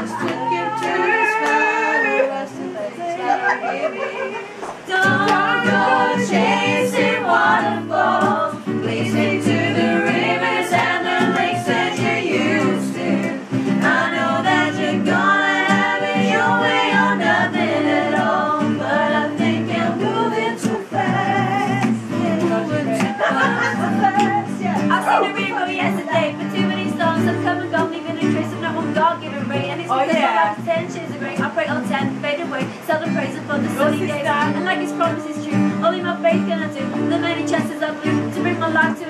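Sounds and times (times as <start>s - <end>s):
voices singing: 0.0s - 39.0s
acoustic guitar strummed: 4.8s - 39.0s.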